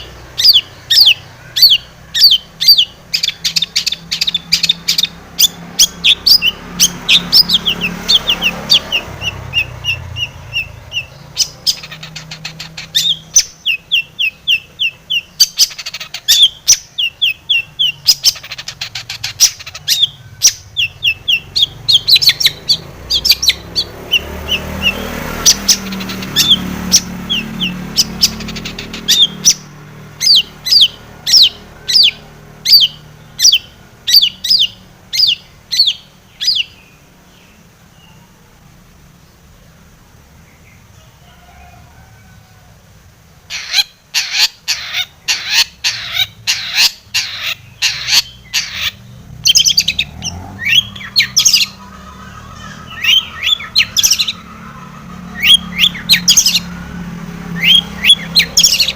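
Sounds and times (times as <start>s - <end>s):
shrike calling: 0.0s - 38.5s, 43.3s - 58.9s.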